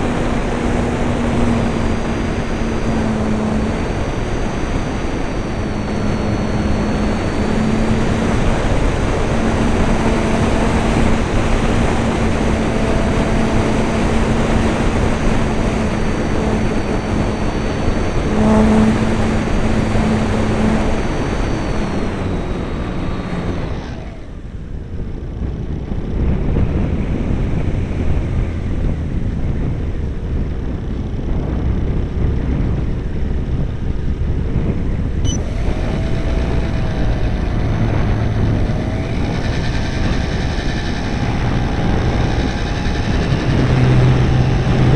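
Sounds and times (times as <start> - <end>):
low rumble: 0.0 - 44.9
model airplane motor whine: 0.0 - 44.9
wind rushing over microphone: 0.0 - 44.9.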